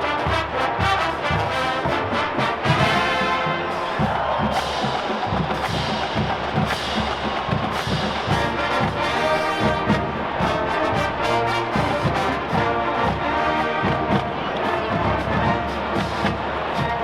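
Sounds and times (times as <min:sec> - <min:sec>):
brass chords: 0:00.0 - 0:04.6, 0:05.6 - 0:17.0
drumline beat: 0:00.0 - 0:17.0.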